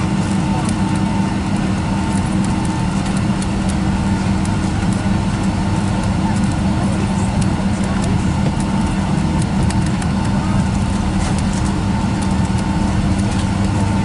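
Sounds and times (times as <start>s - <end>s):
engine whine: 0.0s - 14.0s
jet engines idling low drone: 0.0s - 14.0s.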